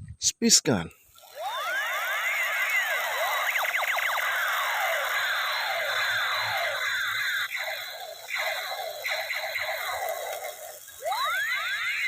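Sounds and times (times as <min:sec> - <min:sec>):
toy laser gun sound effect: 0:01.2 - 0:12.0.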